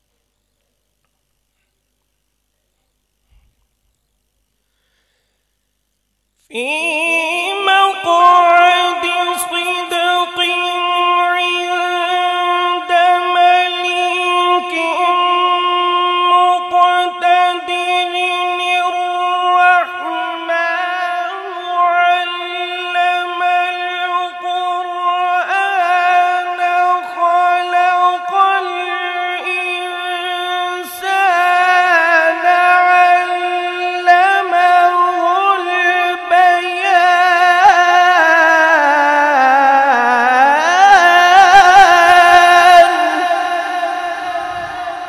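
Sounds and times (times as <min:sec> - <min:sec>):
man reciting melodically: 0:06.4 - 0:45.0.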